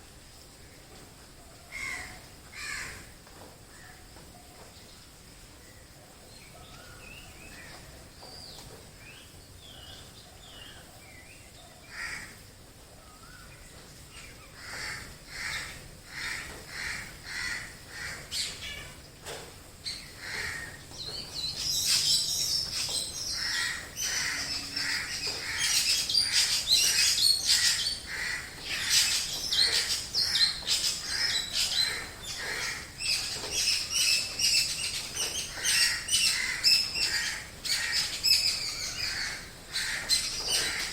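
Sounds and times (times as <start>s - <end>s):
scattered bird calls: 6.4s - 40.9s.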